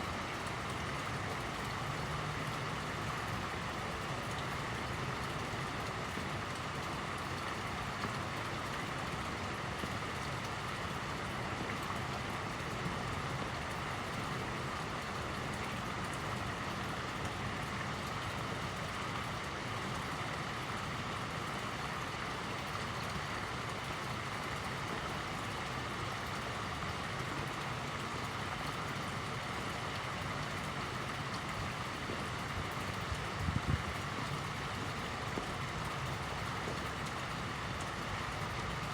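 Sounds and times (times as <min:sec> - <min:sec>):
fountain water splashing: 0:00.0 - 0:38.9.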